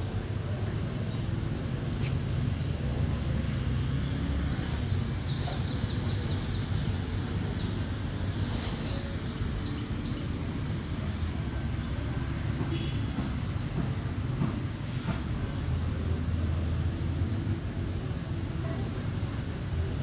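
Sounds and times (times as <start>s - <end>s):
insects droning high-pitched: 0.0s - 20.0s.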